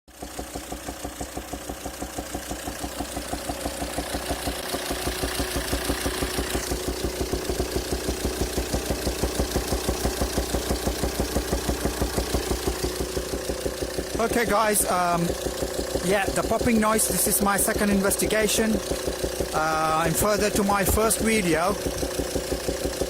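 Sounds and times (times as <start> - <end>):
diesel engine idling: 0.1 - 23.0
rhythmic engine popping: 0.1 - 23.0.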